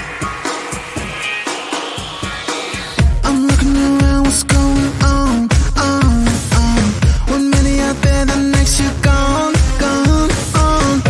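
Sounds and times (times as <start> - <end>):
pop music with heavy bass: 0.0 - 11.0.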